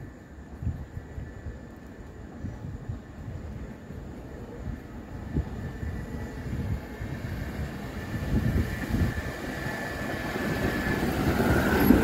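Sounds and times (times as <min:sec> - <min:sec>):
high train whine: 0:00.0 - 0:12.0
train wheels rumbling on rail: 0:00.0 - 0:12.0.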